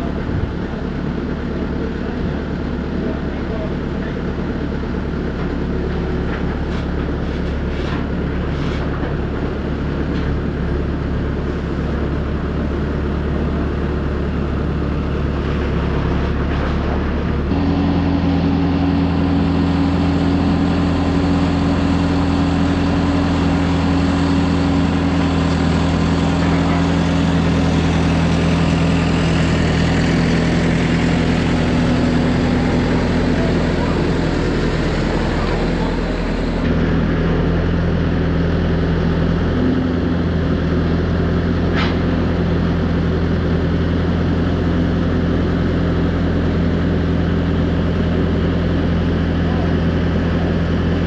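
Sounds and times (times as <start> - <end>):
farm machine engine running: 0.0 - 51.0.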